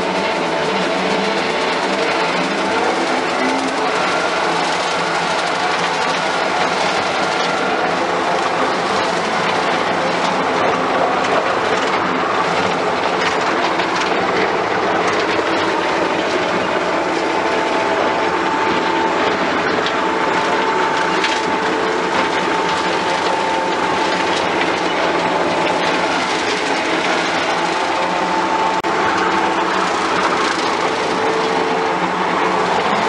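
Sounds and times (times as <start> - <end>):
mower cutting grass: 0.0 - 33.0
skid steer engine running: 0.0 - 33.0
steady whine: 0.0 - 33.0.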